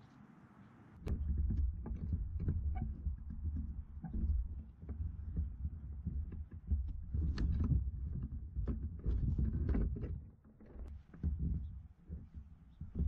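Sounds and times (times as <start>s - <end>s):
rumbling buffeting on microphone: 1.0s - 13.0s
small clicks and rustles: 1.1s - 13.0s.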